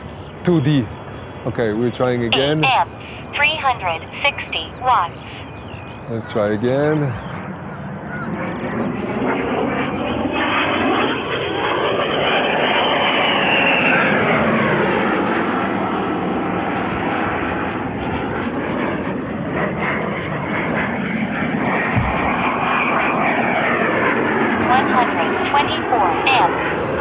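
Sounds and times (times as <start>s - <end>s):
rc jet fan whine: 5.2s - 27.0s.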